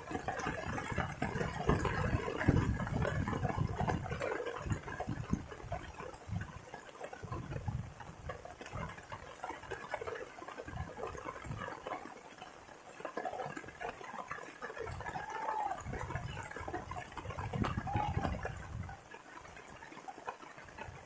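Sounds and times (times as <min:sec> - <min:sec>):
rain water dripping: 0:00.0 - 0:21.0.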